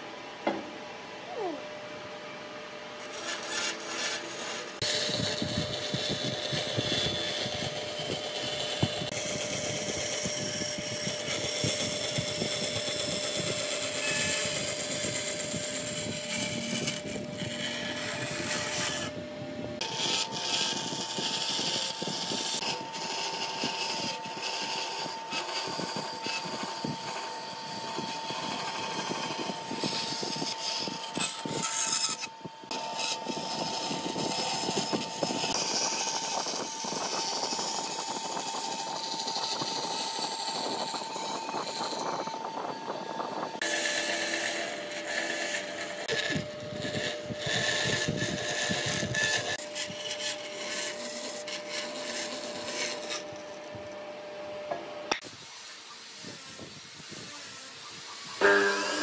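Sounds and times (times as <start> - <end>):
band saw cutting wood: 3.0 - 59.0.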